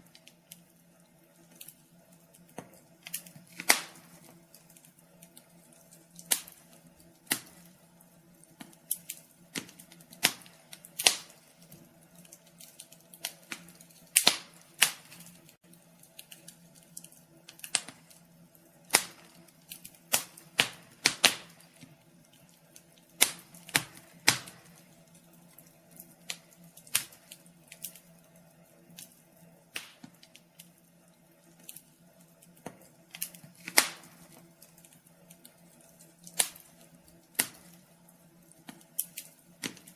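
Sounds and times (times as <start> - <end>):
fireplace fire popping: 0.0 - 39.9.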